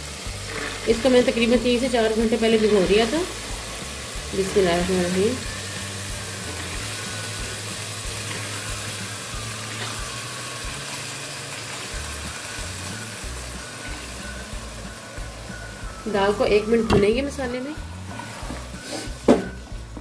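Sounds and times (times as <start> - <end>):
background music: 0.0 - 20.0
lentils sizzling in pot: 0.0 - 20.0.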